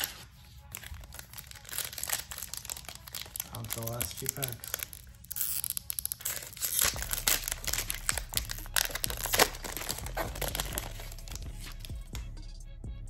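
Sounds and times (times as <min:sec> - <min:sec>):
foil wrapper crinkling: 0:00.0 - 0:11.9.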